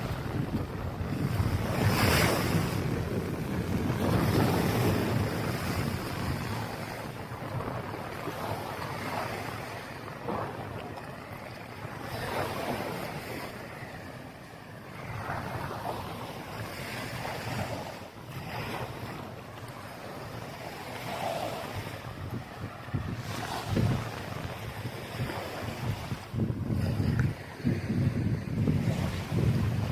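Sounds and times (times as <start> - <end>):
small waves washing onto beach: 0.0 - 29.9
wind rumbling on microphone: 0.0 - 29.9.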